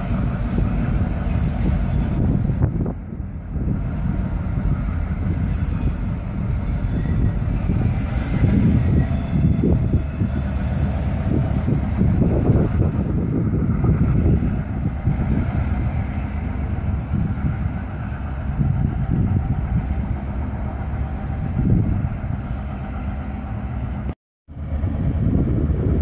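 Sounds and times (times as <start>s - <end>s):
diesel train rumble: 0.0s - 26.0s
wind buffeting microphone: 0.0s - 26.0s.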